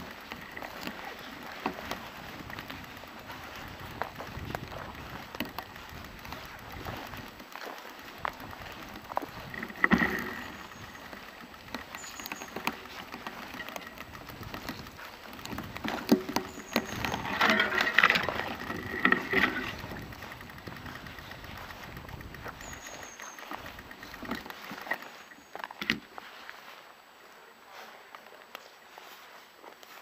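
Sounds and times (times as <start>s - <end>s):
bicycle squeaks: 0.0s - 26.2s
bicycle rattling over bumpy ground: 0.0s - 27.0s.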